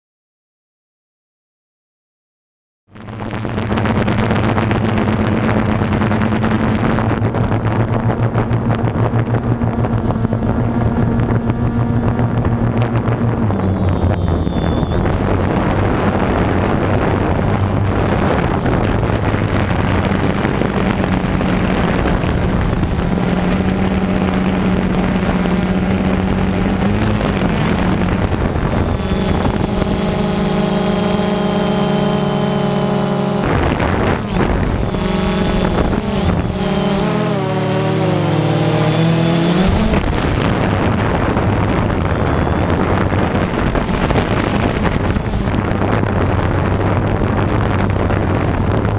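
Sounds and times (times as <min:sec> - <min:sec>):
drone motors humming: 0:02.9 - 0:48.9
wind on microphone: 0:03.0 - 0:48.9.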